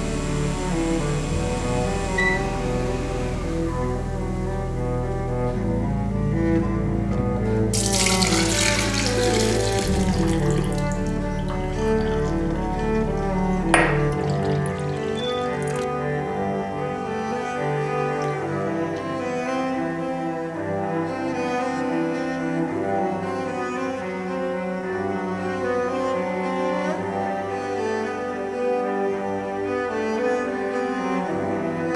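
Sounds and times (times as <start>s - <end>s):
slow bowed strings with cello: 0.0s - 31.9s.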